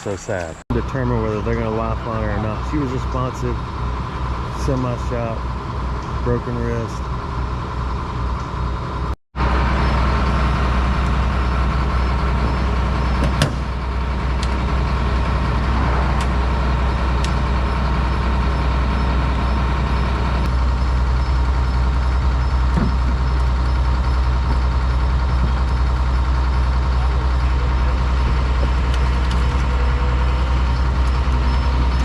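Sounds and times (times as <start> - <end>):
vehicle engine droning: 0.0 - 32.0.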